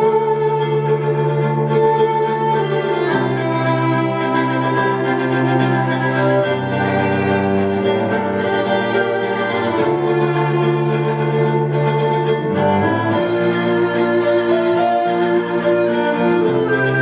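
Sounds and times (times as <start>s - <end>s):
violin and cello slow melody: 0.0s - 17.0s.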